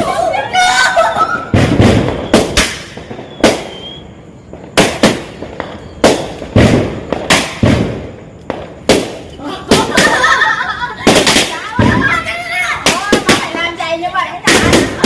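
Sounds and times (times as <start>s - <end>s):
firecracker bangs with echo: 1.3s - 15.0s.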